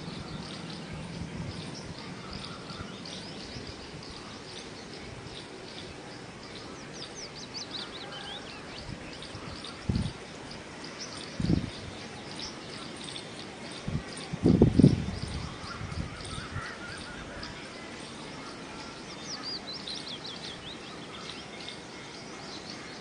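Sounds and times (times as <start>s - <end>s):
songbirds chirping and singing: 0.0s - 23.0s.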